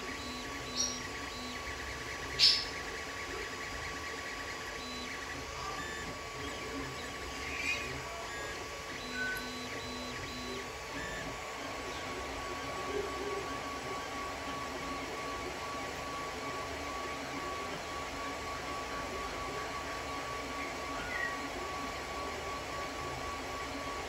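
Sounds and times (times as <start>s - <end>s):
printer motors and fans whining: 0.0s - 24.0s
stepper motor tones: 0.0s - 24.0s.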